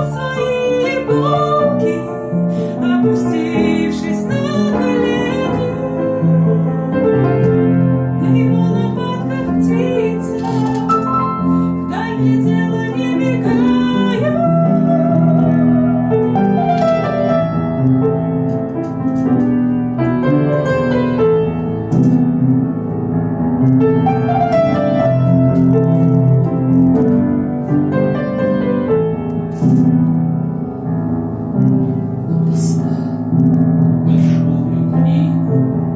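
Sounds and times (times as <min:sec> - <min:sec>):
song with piano: 0:00.0 - 0:35.9.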